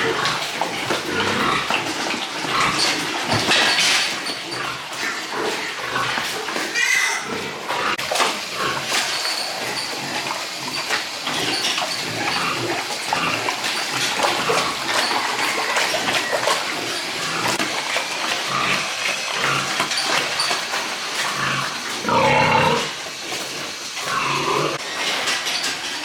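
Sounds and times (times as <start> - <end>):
pigs grunting: 0.0 - 26.0.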